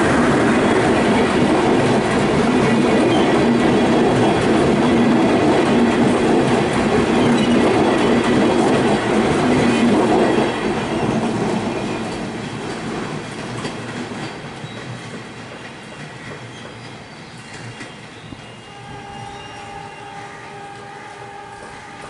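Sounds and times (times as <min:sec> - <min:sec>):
train coaches rolling past: 0:00.0 - 0:22.0.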